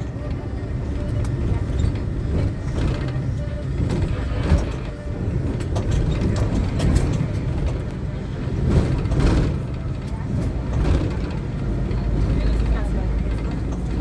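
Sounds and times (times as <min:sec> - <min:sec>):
minibus engine and road rumble: 0:00.0 - 0:14.0
vehicle body rattles and knocks: 0:00.0 - 0:14.0.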